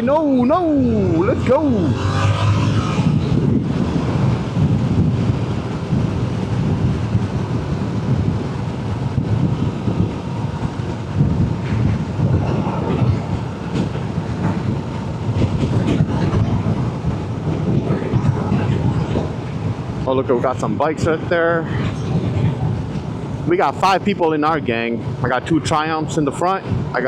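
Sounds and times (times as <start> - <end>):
motorcycle riding at steady speed: 0.0 - 27.0.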